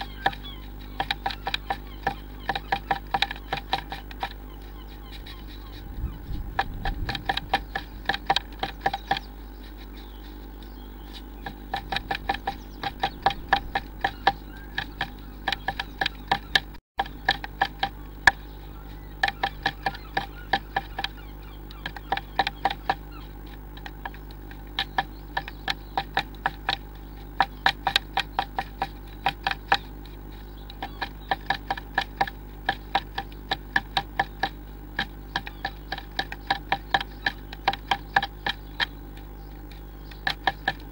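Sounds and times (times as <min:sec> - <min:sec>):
bird pecking on wood: 0:00.0 - 0:40.9
low electrical hum: 0:00.0 - 0:40.9.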